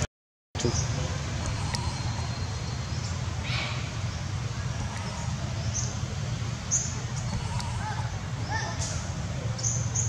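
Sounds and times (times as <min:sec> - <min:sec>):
steady low rumble: 0:00.9 - 0:10.0.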